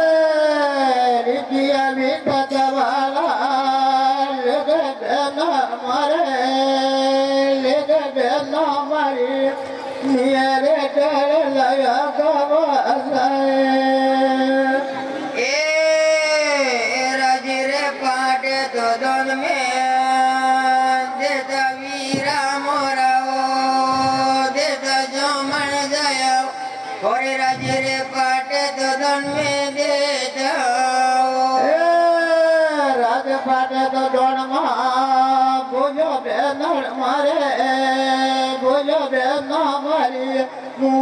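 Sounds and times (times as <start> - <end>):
folk song over loudspeaker: 0.0 - 41.0.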